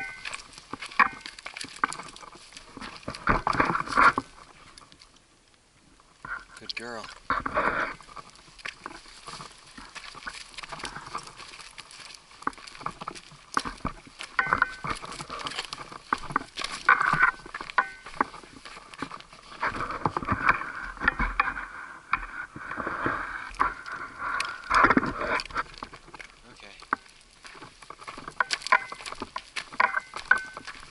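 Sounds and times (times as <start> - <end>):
small stones clattering: 0.0 - 5.2, 6.3 - 30.9
footsteps on gravelly trail: 0.0 - 5.4, 6.0 - 30.9.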